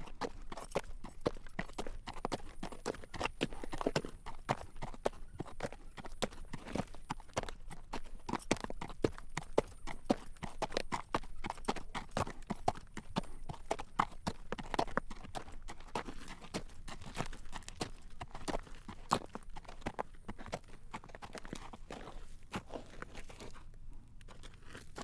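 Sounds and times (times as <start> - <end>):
horse hooves clip-clopping on road: 0.0 - 25.0.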